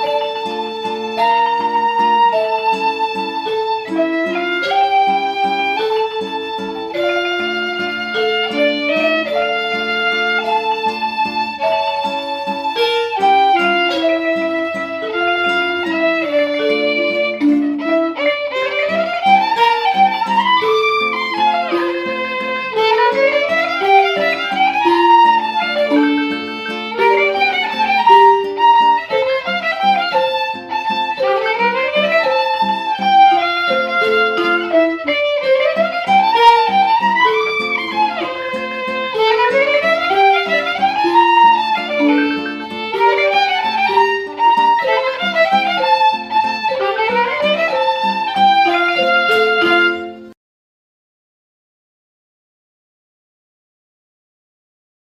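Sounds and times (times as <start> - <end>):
instrumental music: 0.0 - 50.4.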